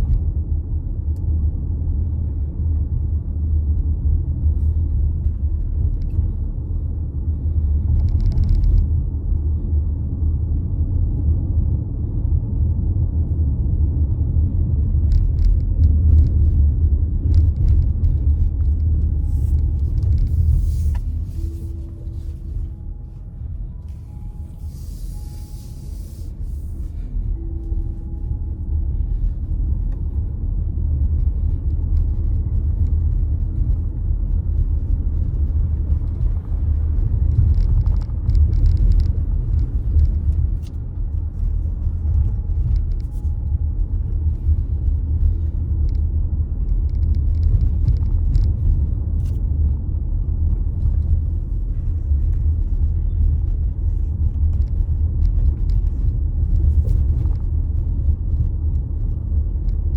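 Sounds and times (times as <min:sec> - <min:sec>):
engine and road noise: 0:00.0 - 0:59.9.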